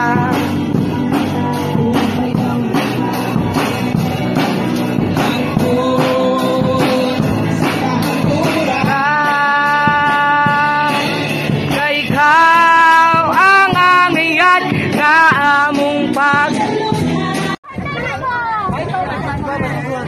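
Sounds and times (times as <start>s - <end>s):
drum kit with cymbals: 0.0s - 17.6s
electric guitar: 0.0s - 17.6s
person singing: 0.0s - 17.6s.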